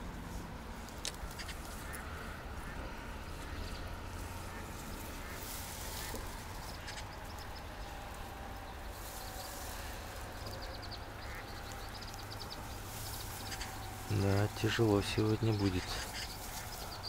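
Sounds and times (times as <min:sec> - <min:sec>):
small animals chattering: 0:01.3 - 0:17.0.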